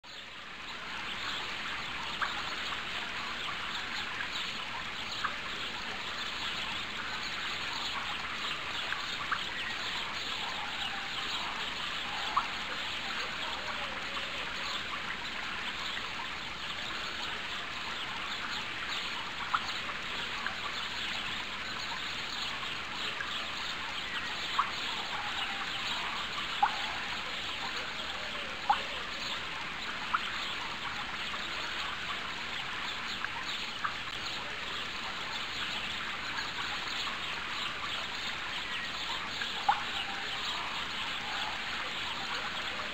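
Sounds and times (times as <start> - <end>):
birds chirping: 0.0 - 42.9
water trickling: 0.0 - 42.9.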